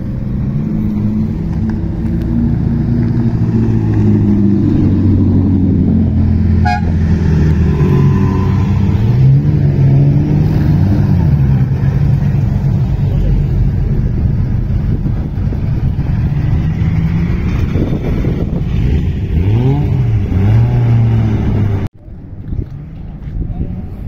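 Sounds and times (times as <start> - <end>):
racing car engines passing: 0.0 - 21.9.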